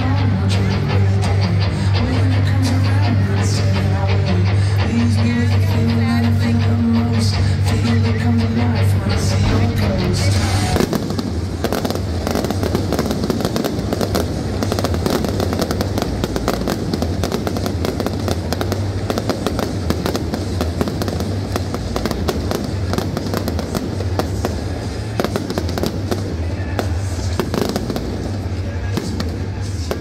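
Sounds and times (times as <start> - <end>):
fireworks crackling and banging: 0.0 - 30.0
low rumble: 4.8 - 30.0.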